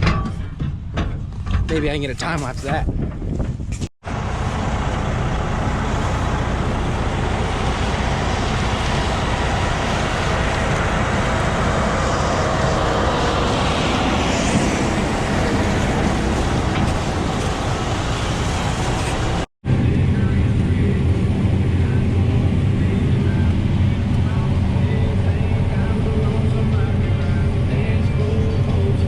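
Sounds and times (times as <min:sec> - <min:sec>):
farm machinery engines running: 0:00.0 - 0:29.0.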